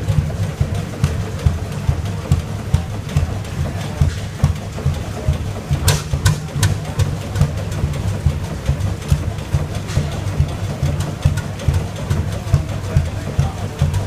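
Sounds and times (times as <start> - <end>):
diesel engine low beats: 0.0 - 14.0
oil engine deep thud: 0.0 - 14.0.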